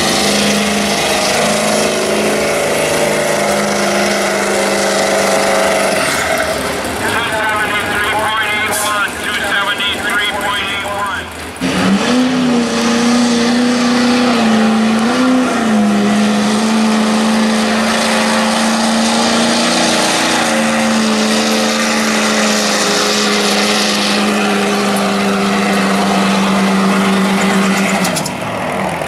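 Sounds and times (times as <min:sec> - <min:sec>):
truck engine revving high: 0:00.0 - 0:29.0.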